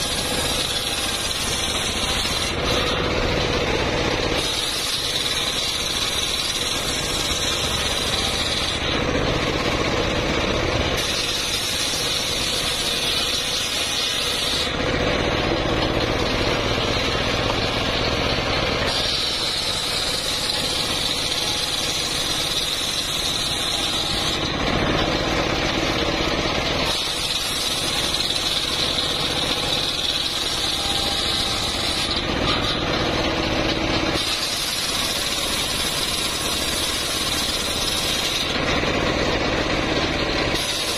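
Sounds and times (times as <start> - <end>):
circular saw blade cutting wood: 0.0 - 40.9
stationary engine running: 0.0 - 40.9.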